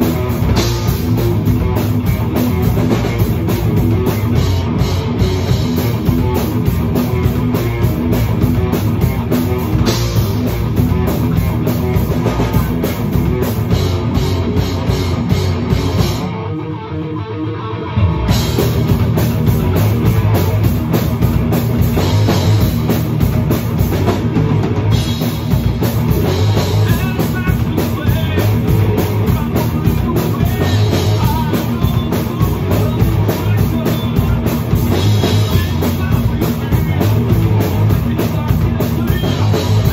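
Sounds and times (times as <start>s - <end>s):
heavy metal music: 0.0s - 39.9s.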